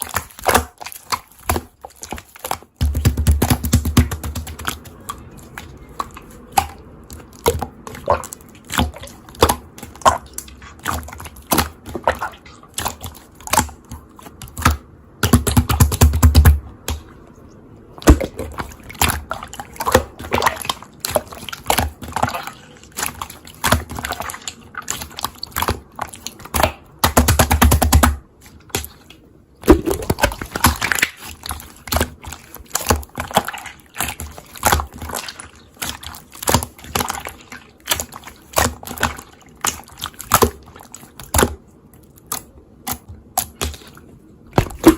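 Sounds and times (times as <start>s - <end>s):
slime squishing and popping: 0.0s - 17.2s, 18.0s - 44.9s.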